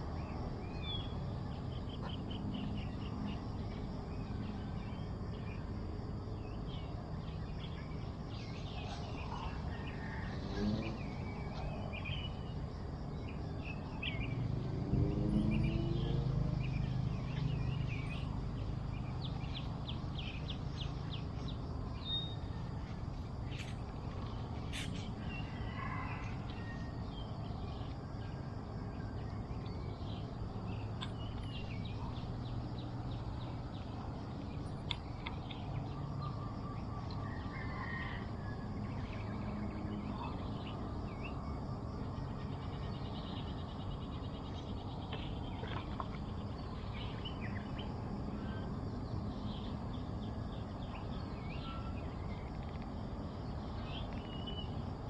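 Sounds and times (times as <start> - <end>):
low outdoor rumble: 0.0 - 55.0
birds chirping and trilling: 6.4 - 28.0, 29.0 - 54.9.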